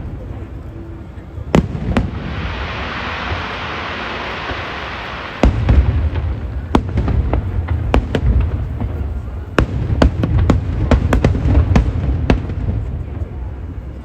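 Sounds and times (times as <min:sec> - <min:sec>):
fireworks bangs: 0:01.4 - 0:14.0.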